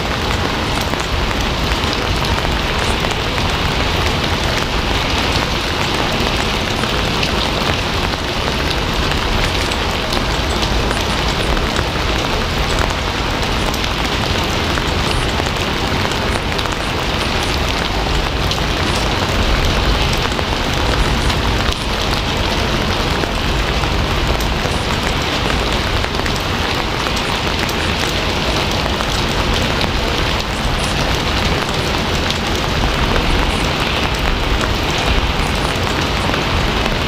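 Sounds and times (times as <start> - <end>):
heavy rain hiss: 0.0 - 37.0
rain drop ticks: 0.0 - 37.0.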